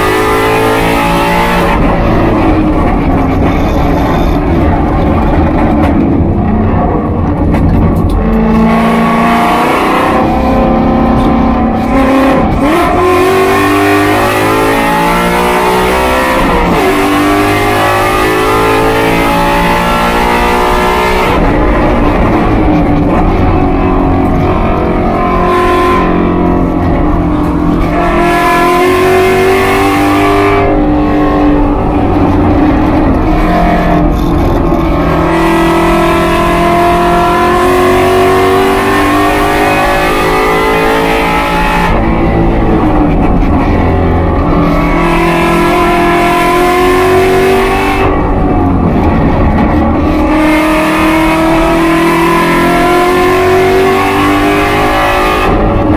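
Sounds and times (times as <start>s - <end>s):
race car engine revving: 0.0s - 55.9s
wind and road noise: 0.0s - 55.9s.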